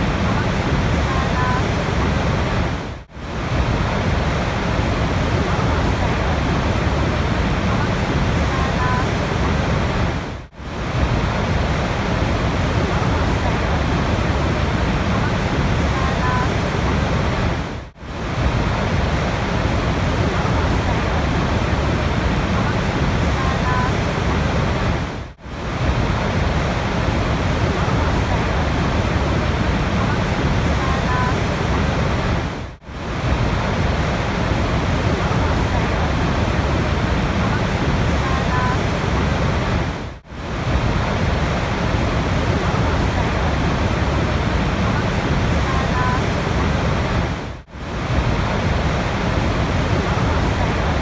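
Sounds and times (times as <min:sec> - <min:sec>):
rushing water: 0:00.0 - 0:51.0.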